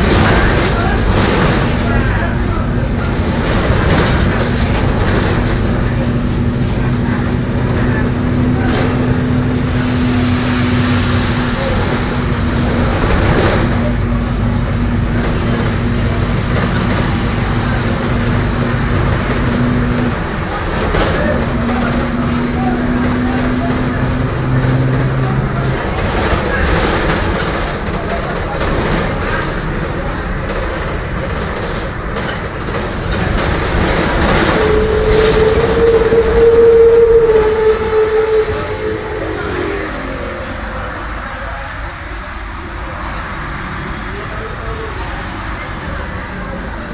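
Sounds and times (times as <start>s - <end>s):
drivetrain running noise: 0.0s - 41.8s
bus differential drone: 0.0s - 46.9s.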